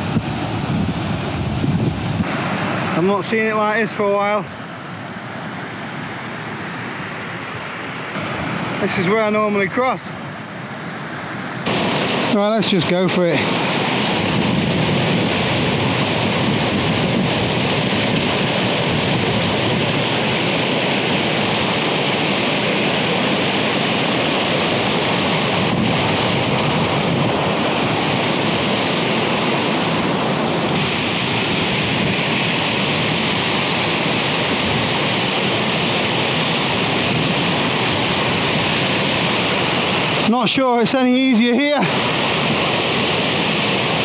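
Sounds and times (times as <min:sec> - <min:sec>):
stream rushing over rocks: 0:00.0 - 0:44.0.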